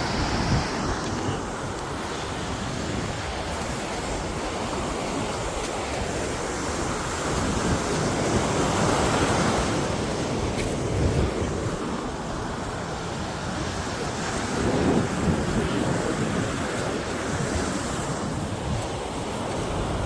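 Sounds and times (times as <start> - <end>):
rushing water: 0.0 - 20.0
wind rumbling on microphone: 0.0 - 20.0.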